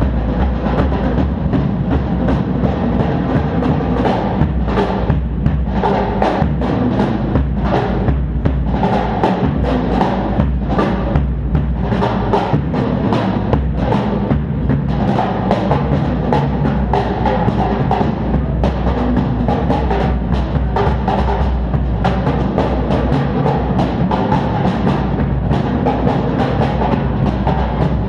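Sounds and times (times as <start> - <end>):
drum kit playing: 0.0 - 28.0.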